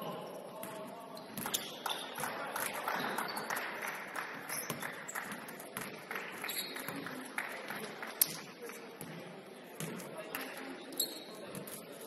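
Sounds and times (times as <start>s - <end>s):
hum of the hall: 0.0s - 12.0s.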